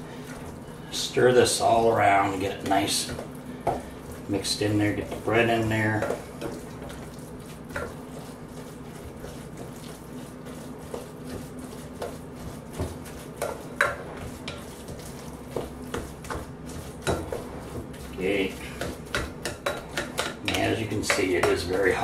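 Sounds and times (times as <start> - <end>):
squelching meat mixture: 0.0 - 22.0.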